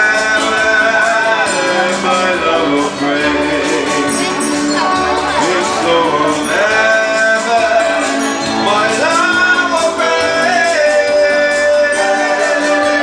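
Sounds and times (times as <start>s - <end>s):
instrumental accompaniment: 0.0s - 13.0s.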